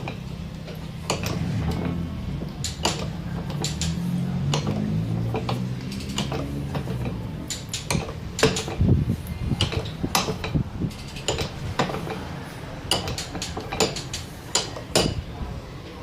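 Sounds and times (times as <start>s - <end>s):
metallic clicks of hand tools: 0.0s - 1.9s, 2.5s - 8.9s, 9.6s - 12.2s, 12.9s - 15.2s.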